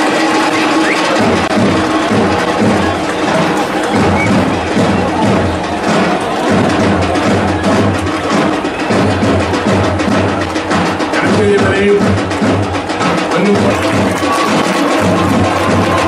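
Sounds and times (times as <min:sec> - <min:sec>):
rhythmic wooden beat: 0:00.0 - 0:16.0.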